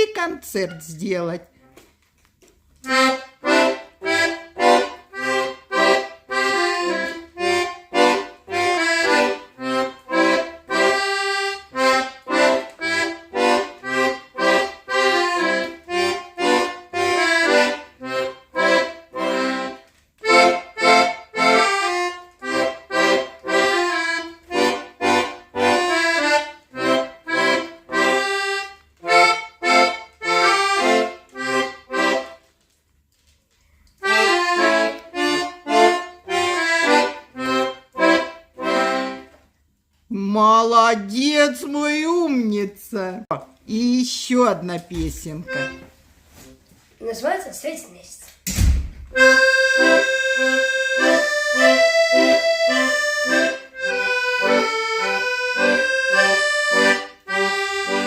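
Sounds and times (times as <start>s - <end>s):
accordion playing a tune: 0.0s - 1.5s, 2.8s - 32.7s, 34.0s - 39.6s, 40.2s - 46.4s, 49.1s - 58.0s.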